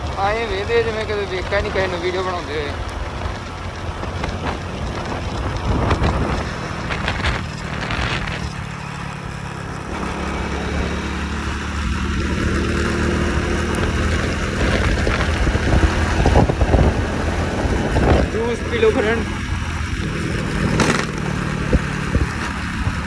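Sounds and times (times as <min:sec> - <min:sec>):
road noise: 0:00.0 - 0:23.0
small vehicle engine running: 0:00.0 - 0:23.0.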